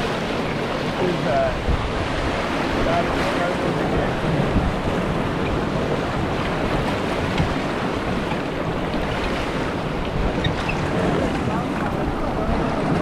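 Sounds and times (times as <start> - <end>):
river water rushing in rapids: 0.0 - 13.0
wind gusts on microphone: 0.0 - 13.0.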